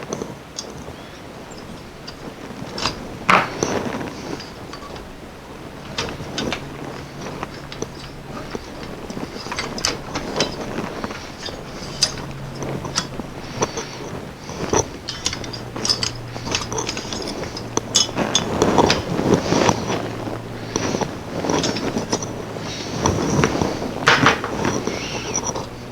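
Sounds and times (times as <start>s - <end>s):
clicks and clinks of hard parts: 0.0s - 25.9s.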